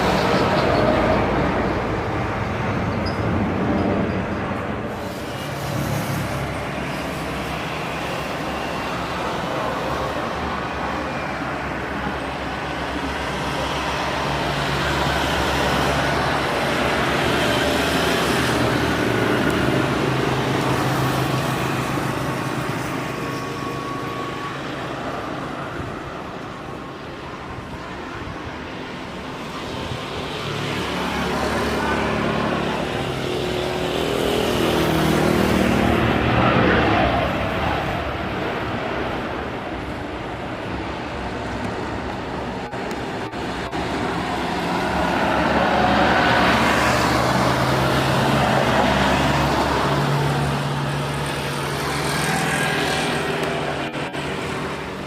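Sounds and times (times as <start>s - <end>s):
road traffic rushing past: 0.0s - 55.0s.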